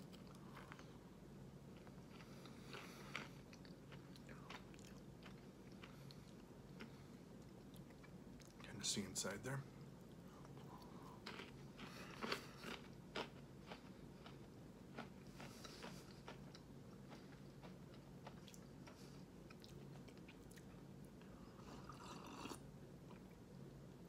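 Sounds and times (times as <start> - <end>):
chewing and crunching pretzel: 0.0 - 8.8, 10.0 - 23.7.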